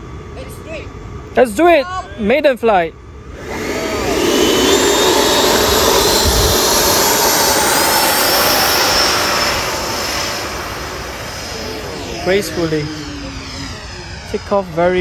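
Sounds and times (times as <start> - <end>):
electric ducted fans whining: 0.0 - 15.0.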